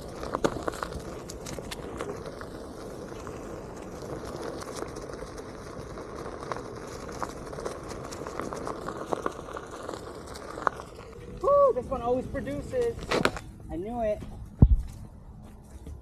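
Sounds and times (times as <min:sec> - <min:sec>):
twigs and leaves crackling: 0:00.0 - 0:15.9
wheel rolling rumble: 0:00.0 - 0:16.0.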